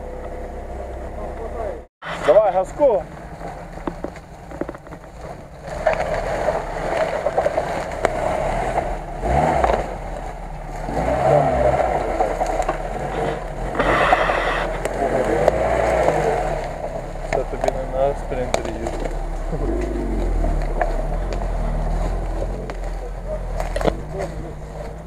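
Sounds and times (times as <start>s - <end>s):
car engine revving: 0.0s - 25.0s
branches scraping car body: 2.0s - 25.0s.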